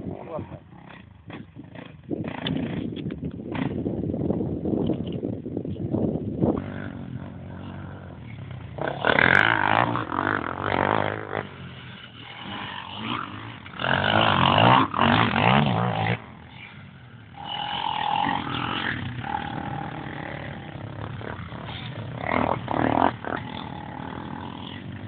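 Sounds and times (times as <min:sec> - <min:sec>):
quad engine revving: 0:00.0 - 0:03.8, 0:06.5 - 0:25.0.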